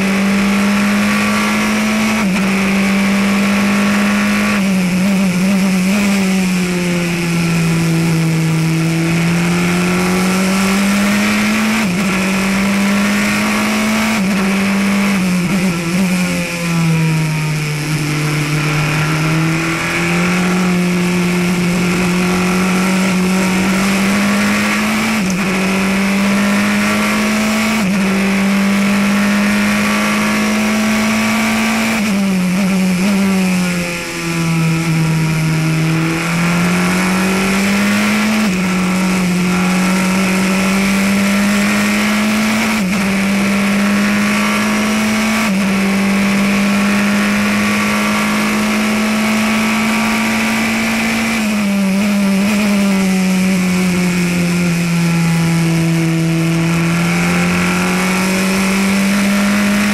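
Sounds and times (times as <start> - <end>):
race car engine revving: 0.0 - 59.9
wind and road noise: 0.0 - 59.9.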